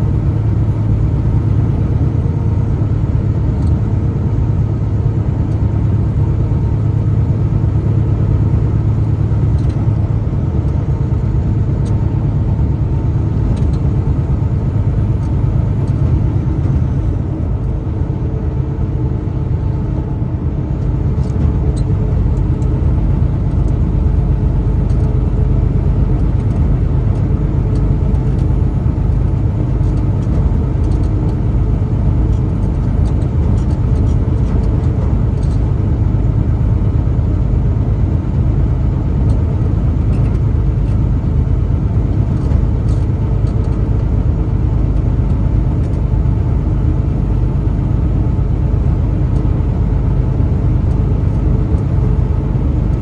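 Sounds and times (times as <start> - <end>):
truck engine rumble: 0.0 - 53.0.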